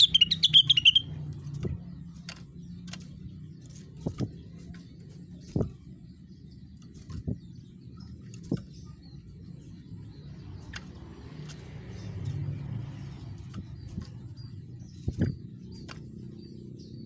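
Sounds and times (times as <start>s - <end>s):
bird chirps: 0.0s - 17.0s
steady low rumble: 0.0s - 17.0s.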